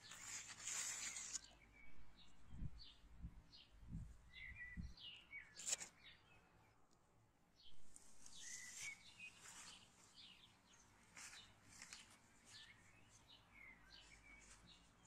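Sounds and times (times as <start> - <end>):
small birds chirping: 0.0 - 7.0, 7.6 - 15.0.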